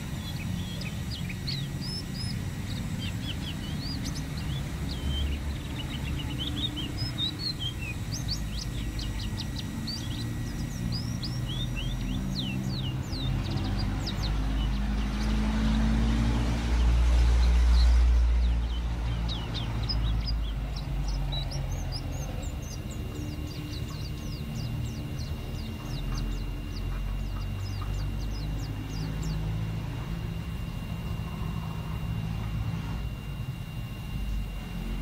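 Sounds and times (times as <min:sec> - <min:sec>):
bird singing high chirps: 0:00.0 - 0:35.0
low motor rumble: 0:00.0 - 0:35.0.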